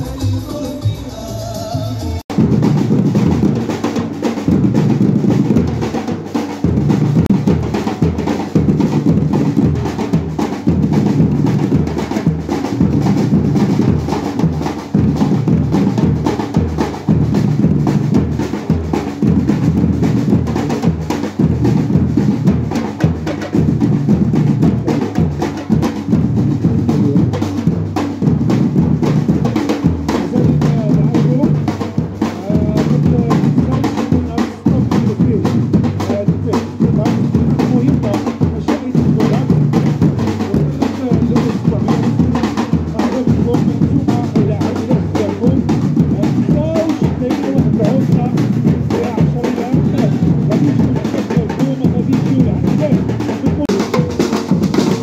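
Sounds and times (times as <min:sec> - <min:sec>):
bass drums: 0:00.0 - 0:55.0
snare drums: 0:00.0 - 0:55.0.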